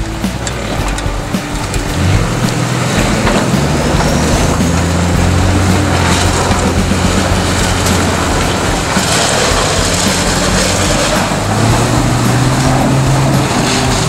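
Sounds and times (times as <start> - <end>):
diesel engine running: 0.0 - 14.0
tyres splashing through water: 0.0 - 14.0.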